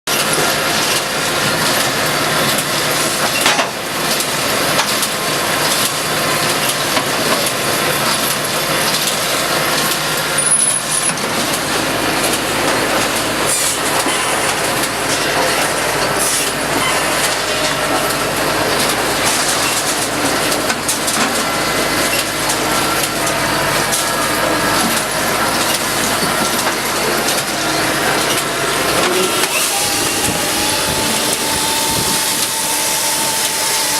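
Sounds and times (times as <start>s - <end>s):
firewood processor running: 0.1s - 33.9s.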